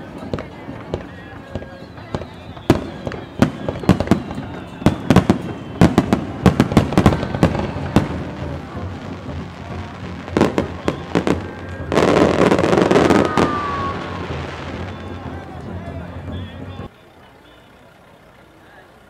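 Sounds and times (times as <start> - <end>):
fireworks bangs: 0.0 - 16.9
fireworks crackling: 0.0 - 19.0.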